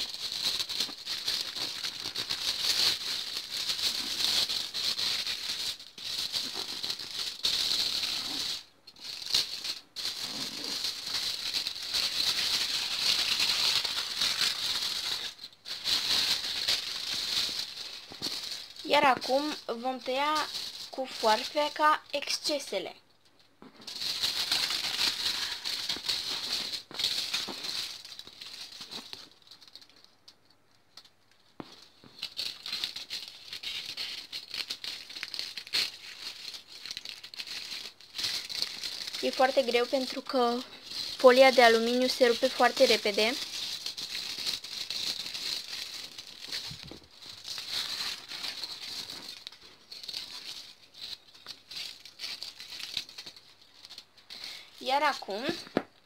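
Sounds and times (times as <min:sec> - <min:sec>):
scissors cutting foil: 0:00.0 - 0:22.6, 0:23.9 - 0:30.0, 0:31.8 - 0:55.6
aluminium foil crinkling: 0:00.0 - 0:56.0.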